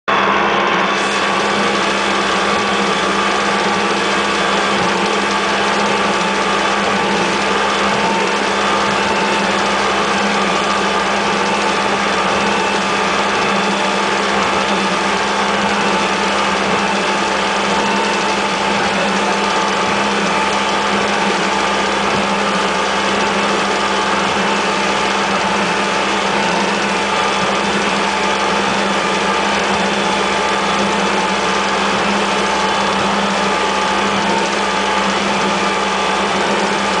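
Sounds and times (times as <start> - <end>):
boat engine running: 0.1 - 37.0.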